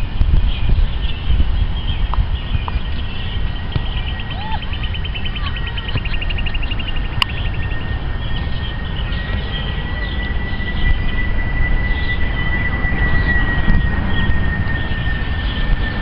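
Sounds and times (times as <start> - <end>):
low rumble: 0.0 - 16.0
thin high whine: 0.0 - 16.0
birds chirping: 0.3 - 16.0
rapid bird trill: 0.5 - 16.0.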